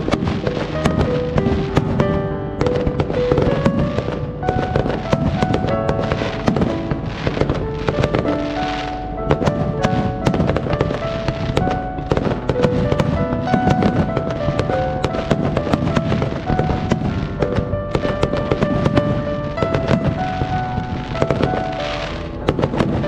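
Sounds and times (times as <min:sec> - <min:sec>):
fireworks bangs and crackles: 0:00.0 - 0:23.0
music with held notes: 0:00.0 - 0:23.0.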